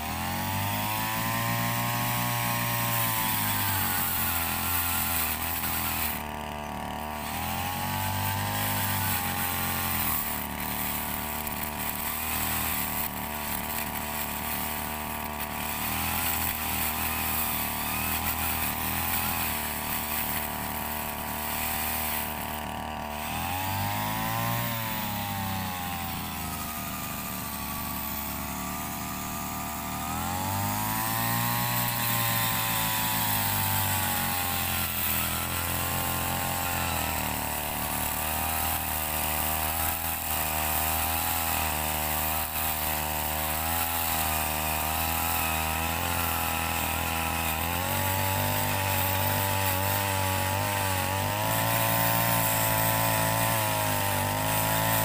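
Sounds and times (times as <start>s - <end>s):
chainsaw engine sawing wood: 0.0s - 55.0s.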